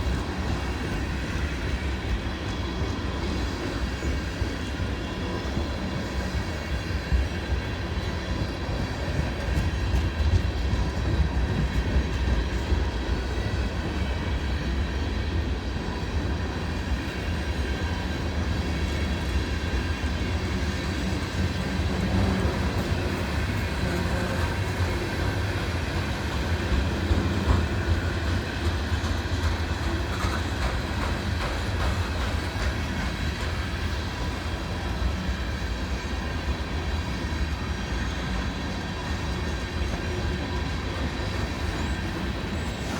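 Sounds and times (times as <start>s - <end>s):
freight train wheels clacking on rails: 0.0s - 42.9s.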